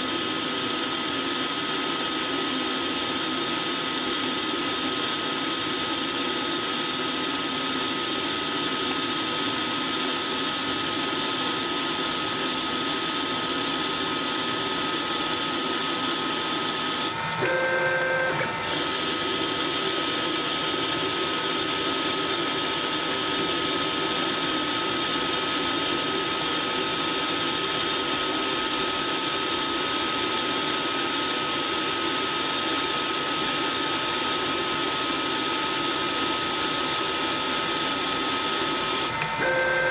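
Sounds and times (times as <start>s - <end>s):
lathe running with a whine: 0.0s - 39.9s.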